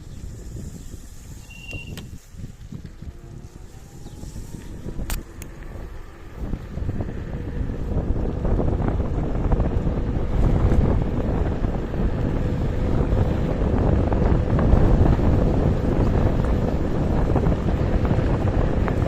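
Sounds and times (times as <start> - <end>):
road rumble: 0.0 - 19.0
wind buffeting microphone: 0.0 - 19.0.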